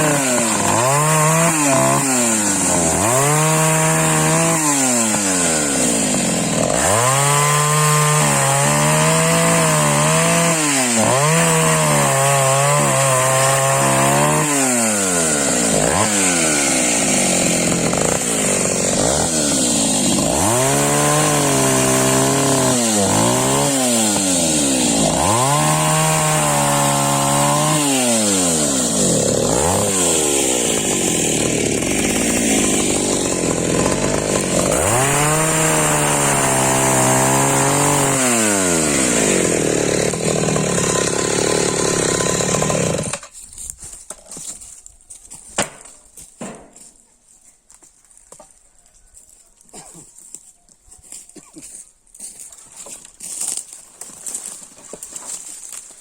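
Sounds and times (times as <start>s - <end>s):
chainsaw cutting wood: 0.0s - 43.4s, 52.2s - 56.0s.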